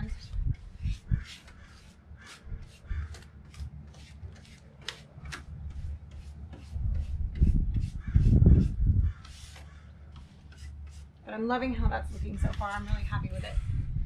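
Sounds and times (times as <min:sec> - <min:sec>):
paintbrush strokes on wood: 0:00.0 - 0:13.7.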